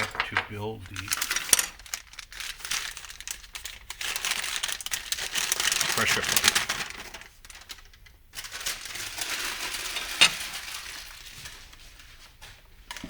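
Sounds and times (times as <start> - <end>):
crinkly scraping of parts: 0.0 - 13.0.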